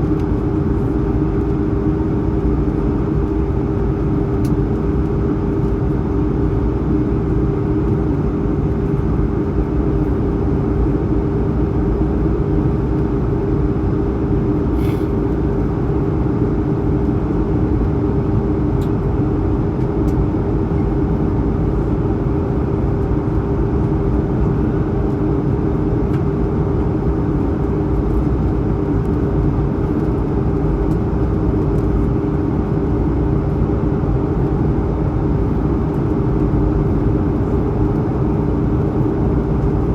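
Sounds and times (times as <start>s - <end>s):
aircraft cabin roar: 0.0s - 39.9s
steady hum: 0.0s - 39.9s.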